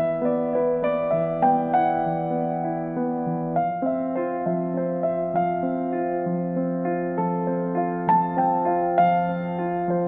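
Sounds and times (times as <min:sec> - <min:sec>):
soft piano melody: 0:00.0 - 0:10.0.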